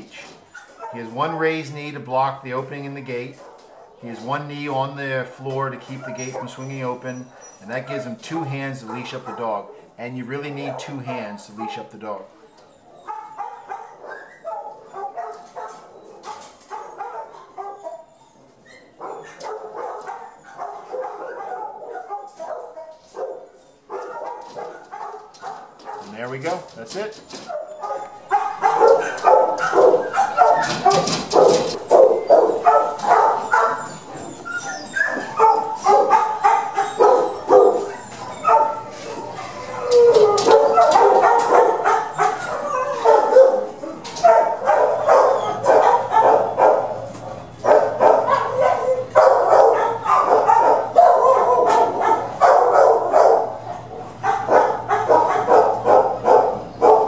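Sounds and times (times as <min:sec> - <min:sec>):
dogs barking and yipping: 0:00.0 - 0:01.9, 0:02.6 - 0:57.0.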